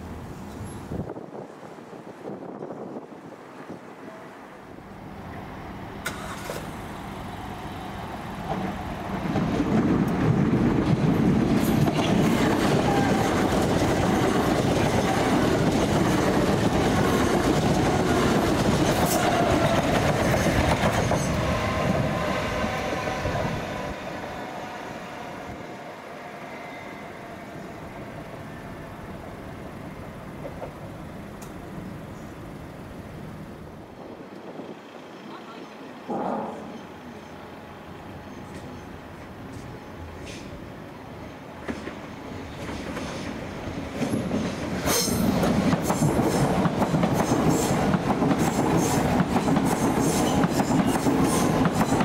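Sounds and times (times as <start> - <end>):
train passing: 0.0 - 52.0.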